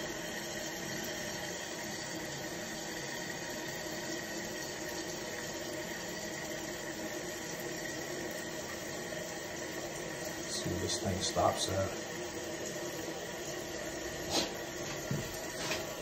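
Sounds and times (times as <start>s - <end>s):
toilet tank refilling water rush: 0.0s - 16.0s.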